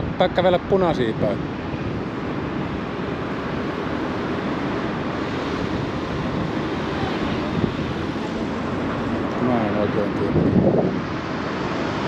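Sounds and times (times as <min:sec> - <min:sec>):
road traffic: 0:00.0 - 0:12.0
wind on microphone: 0:00.0 - 0:12.0.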